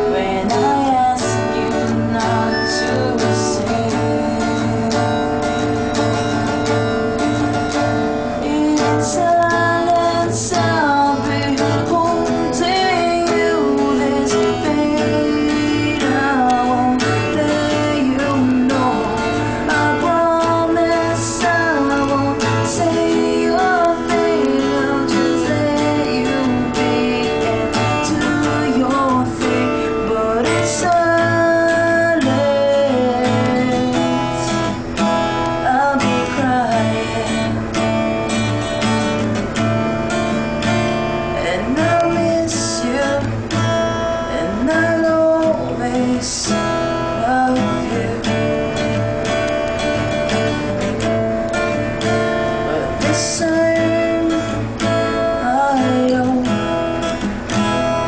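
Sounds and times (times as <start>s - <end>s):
acoustic guitar ballad: 0.0s - 58.0s.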